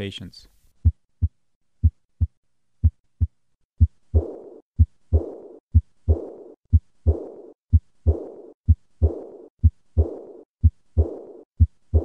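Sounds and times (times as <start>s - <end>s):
heartbeat lub-dub: 0.8s - 12.0s
high-pitched heart murmur: 0.8s - 12.0s.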